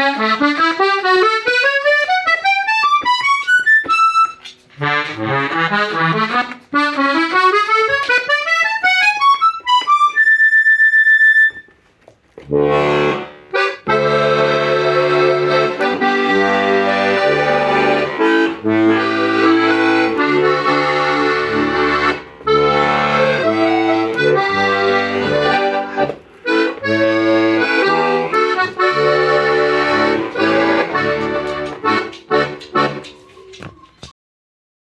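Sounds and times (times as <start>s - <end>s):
button accordion playing folk tune: 0.0s - 11.8s, 12.4s - 33.6s.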